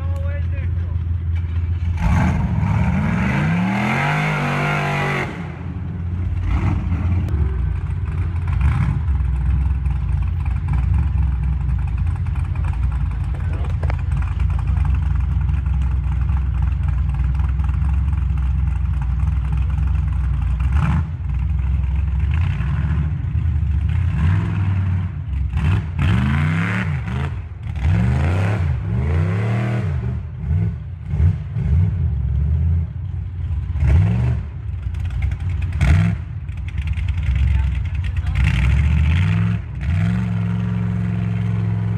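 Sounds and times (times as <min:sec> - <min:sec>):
off-road vehicle engine revving: 0:00.8 - 0:41.9.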